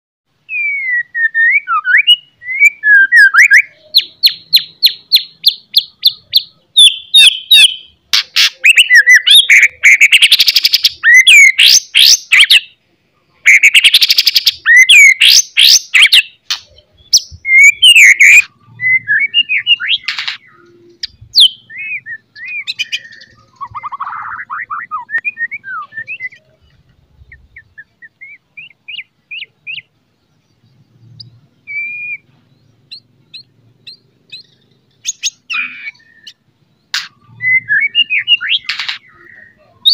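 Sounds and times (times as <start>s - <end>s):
songbird singing trills: 0.4s - 39.9s.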